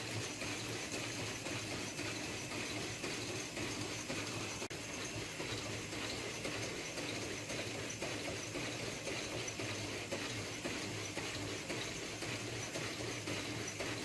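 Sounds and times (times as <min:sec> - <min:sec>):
faint rhythmic clatter: 0:00.0 - 0:14.0.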